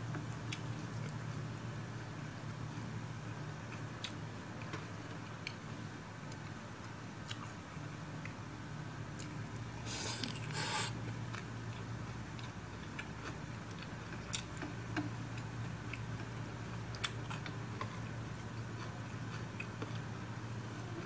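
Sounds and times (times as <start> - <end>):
steady low hum: 0.0 - 21.0
person chewing food: 0.4 - 5.6, 6.3 - 7.6, 9.2 - 20.2.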